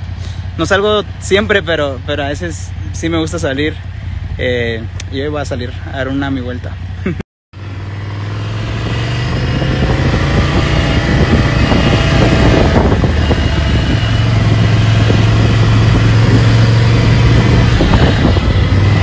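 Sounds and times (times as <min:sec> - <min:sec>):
motorcycle engine running: 0:00.0 - 0:19.0
road and wind noise: 0:00.0 - 0:19.0.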